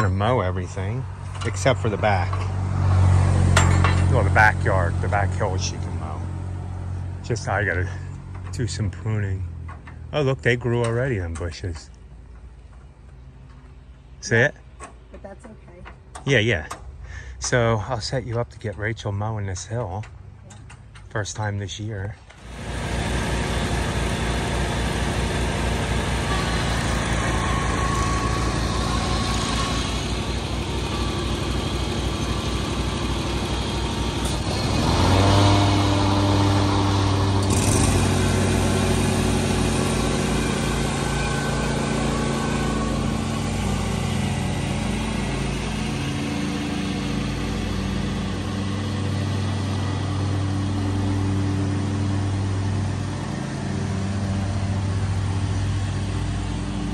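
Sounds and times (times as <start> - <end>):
lawn mower engine running: 0.0 - 14.2, 22.2 - 56.9.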